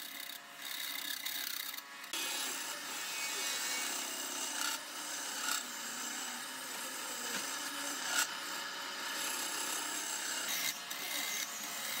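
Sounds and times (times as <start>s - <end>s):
tool scraping wood: 0.0s - 12.0s.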